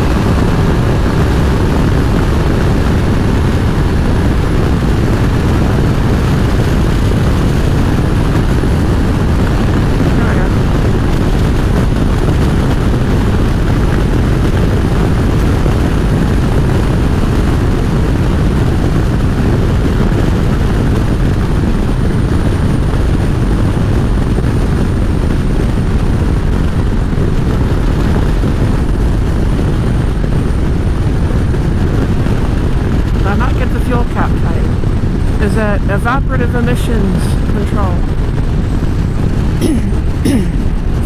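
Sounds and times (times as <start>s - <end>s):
motorcycle engine: 0.0s - 35.4s
wind rush: 0.0s - 41.0s.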